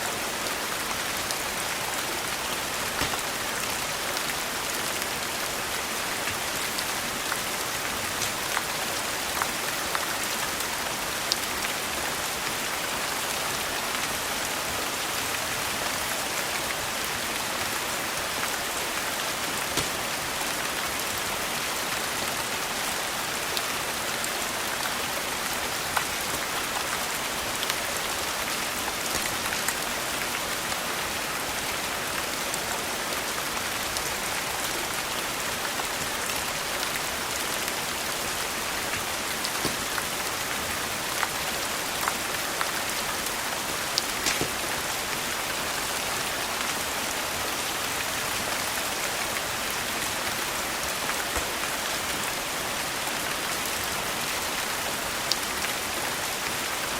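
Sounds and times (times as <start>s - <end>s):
rain hiss: 0.0s - 56.9s.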